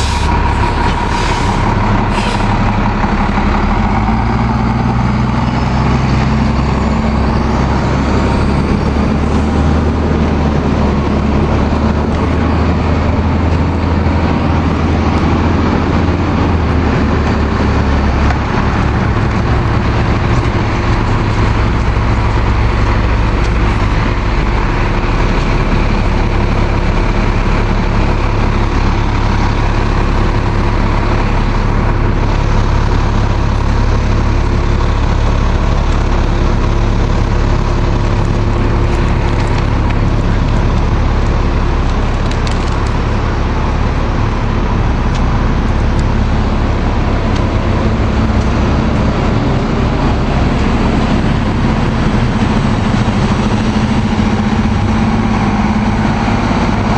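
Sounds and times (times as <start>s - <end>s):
diesel bus engine idling: 0.0s - 56.9s.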